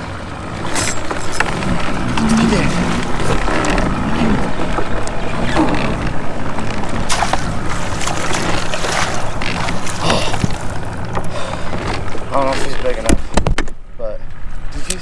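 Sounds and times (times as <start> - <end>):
water sloshing against kayak hull: 0.0 - 13.3.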